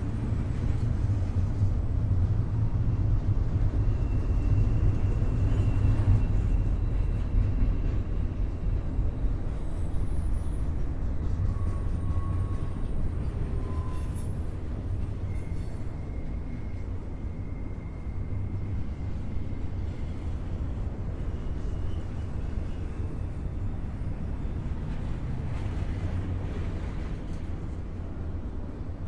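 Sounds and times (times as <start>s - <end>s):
train wheels rumbling on rail: 0.0s - 29.0s
faint high-pitched squeals: 2.9s - 29.0s.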